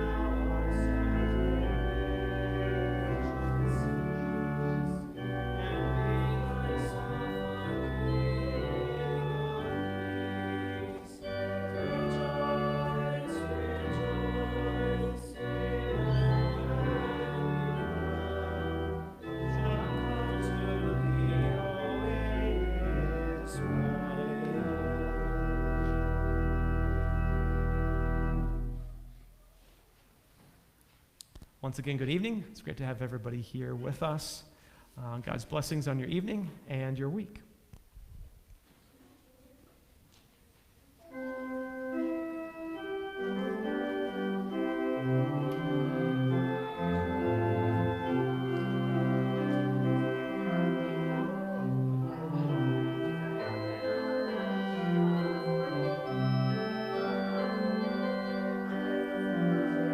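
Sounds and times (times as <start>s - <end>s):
church organ playing a hymn: 0.0s - 29.3s, 31.8s - 37.2s, 41.0s - 59.9s.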